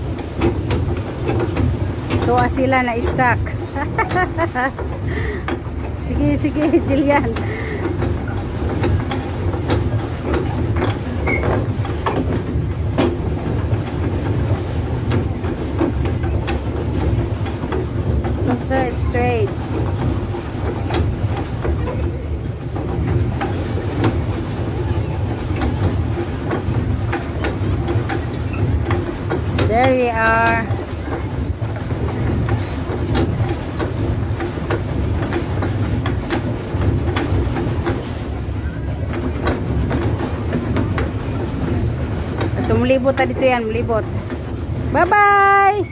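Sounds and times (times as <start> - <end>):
mechanism clicks and knocks: 0.0 - 38.4
pedal drive rumble: 0.0 - 45.9.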